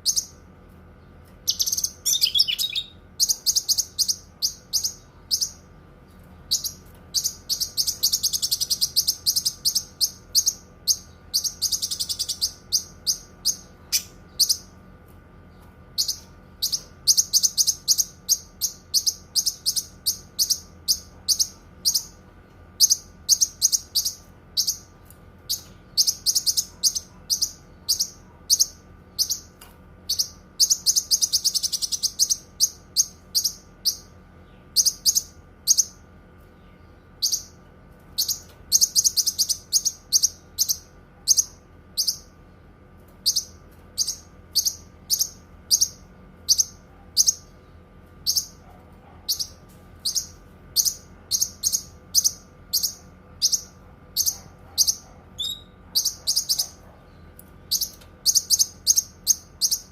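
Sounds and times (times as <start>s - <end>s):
bird chirping and trilling: 0.0s - 0.4s, 1.4s - 5.8s, 6.5s - 14.8s, 15.5s - 22.2s, 22.8s - 24.9s, 25.5s - 36.0s, 36.6s - 37.6s, 38.2s - 42.4s, 43.2s - 48.6s, 49.3s - 59.9s
faint steady hum: 0.0s - 59.9s.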